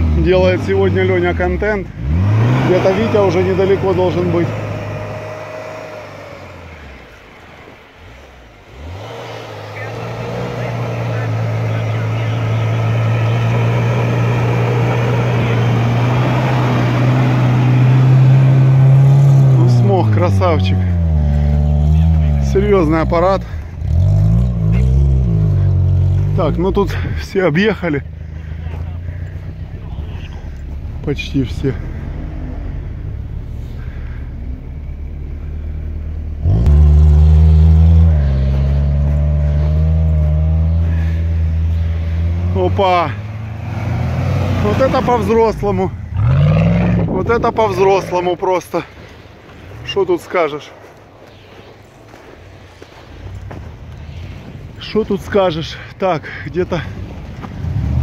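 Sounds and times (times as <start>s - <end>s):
car engine running hard: 0.0s - 49.8s.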